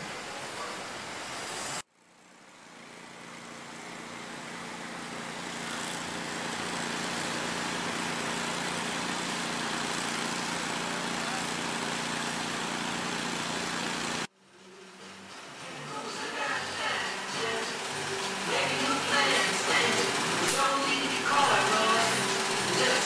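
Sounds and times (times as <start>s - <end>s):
street traffic hiss: 0.0s - 23.0s.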